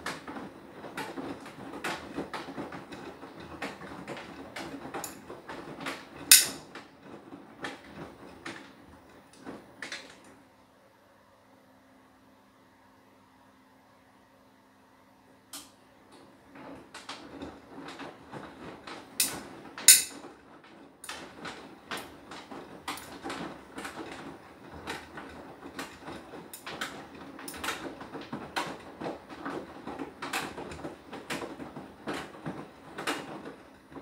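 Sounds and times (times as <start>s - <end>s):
washing machine drum turning: 0.0s - 10.3s, 15.6s - 34.0s
laundry tumbling with knocks: 0.0s - 10.4s, 16.2s - 34.0s.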